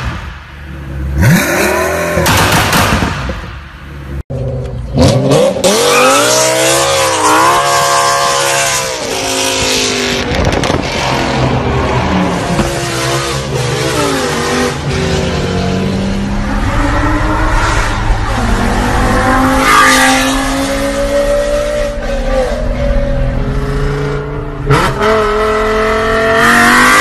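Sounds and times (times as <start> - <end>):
car engine revving loudly: 5.0 - 27.0.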